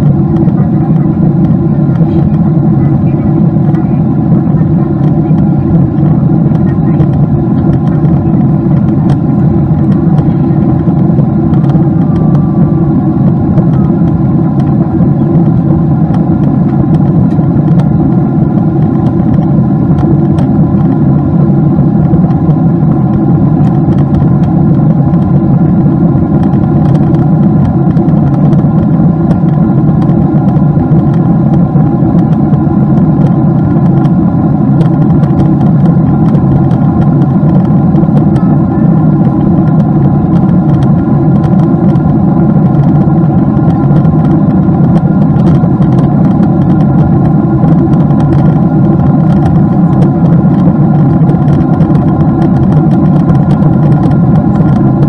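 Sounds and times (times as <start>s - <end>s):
jet engines droning in cabin: 0.0s - 55.0s.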